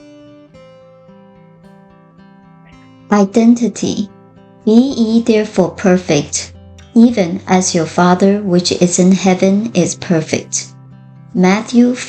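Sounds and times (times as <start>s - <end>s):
plucked acoustic guitar: 0.0s - 12.0s.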